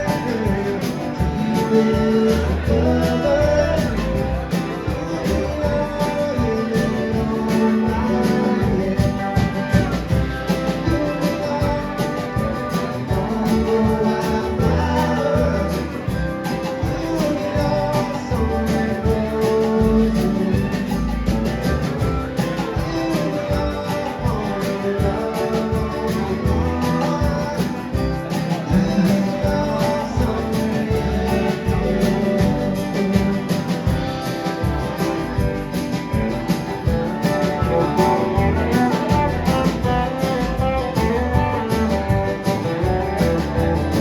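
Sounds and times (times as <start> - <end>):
guitar: 0.0 - 44.0
live band playing: 0.0 - 44.0.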